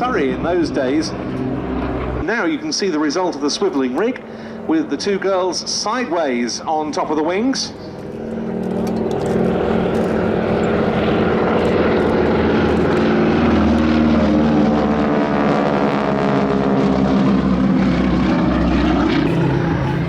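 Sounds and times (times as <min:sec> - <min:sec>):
biplanes flying past: 0:00.0 - 0:20.0.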